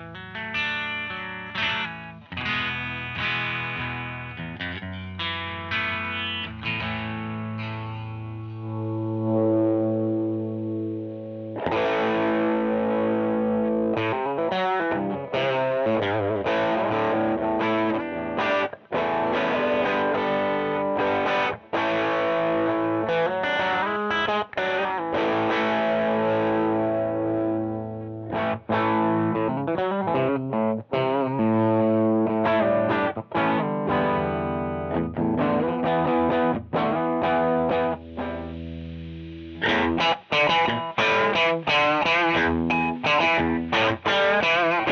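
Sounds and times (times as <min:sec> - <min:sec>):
distorted electric guitar: 0:00.0 - 0:44.9.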